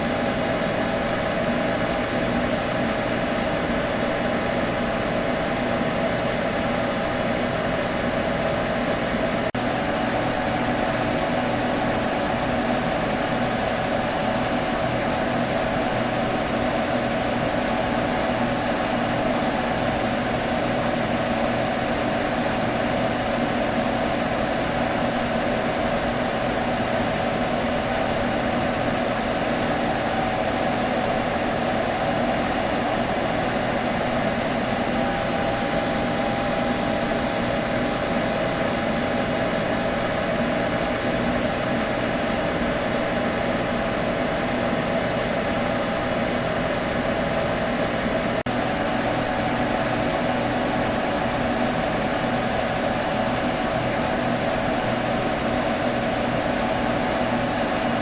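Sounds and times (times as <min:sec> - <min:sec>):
computer fans humming: 0:00.0 - 0:58.0.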